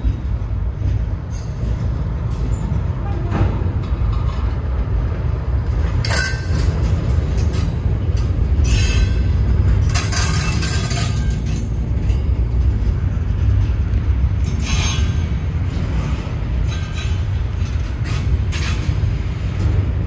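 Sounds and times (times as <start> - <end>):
freight train rumbling past: 0.0 - 20.0
high-pitched rail noise: 0.0 - 20.0.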